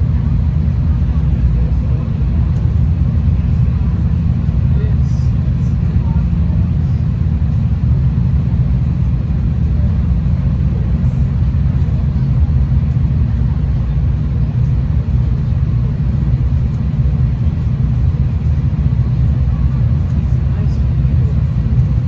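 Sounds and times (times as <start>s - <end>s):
passenger train rumble: 0.0s - 22.0s.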